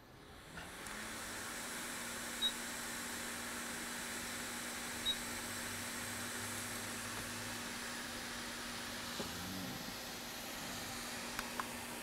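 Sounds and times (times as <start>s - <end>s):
hot air station blowing: 0.0s - 12.0s.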